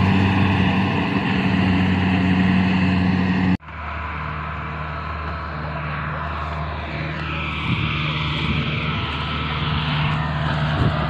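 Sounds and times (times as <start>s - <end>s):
combine harvester engine running: 0.0s - 11.0s.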